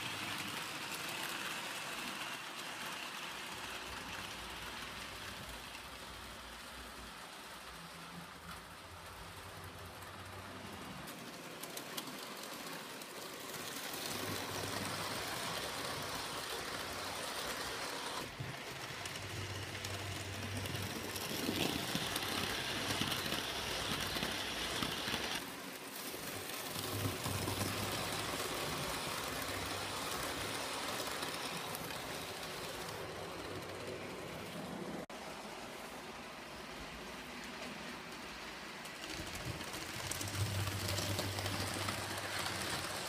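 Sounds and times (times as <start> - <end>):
model train running on track: 0.0 - 43.0.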